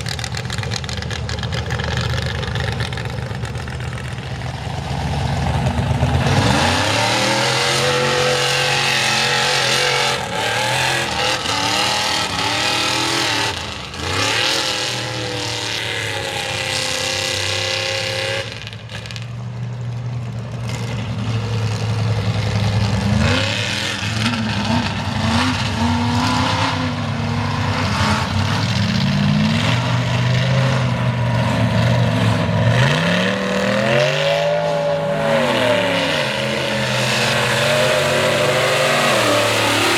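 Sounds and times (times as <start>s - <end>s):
truck engine revving: 0.0s - 19.2s, 20.7s - 39.9s.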